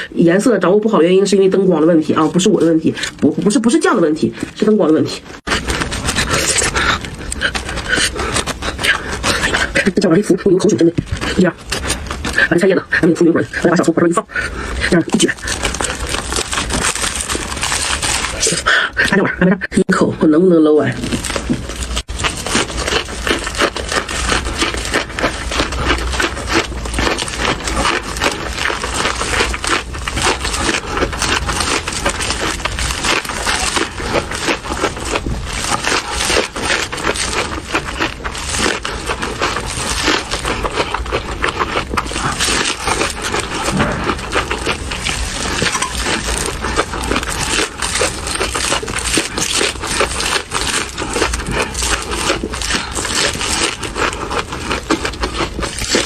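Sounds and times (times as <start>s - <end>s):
crunchy chewing of raw onions: 0.0s - 19.3s, 20.8s - 56.0s.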